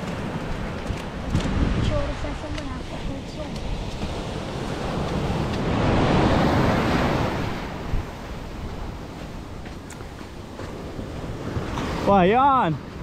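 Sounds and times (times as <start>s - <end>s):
ocean waves breaking on shore: 0.0s - 13.0s
wind buffeting microphone: 0.0s - 13.0s.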